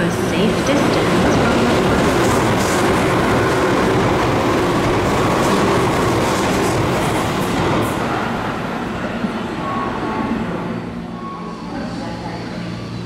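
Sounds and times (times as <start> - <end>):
electric train slowing: 0.0 - 13.0.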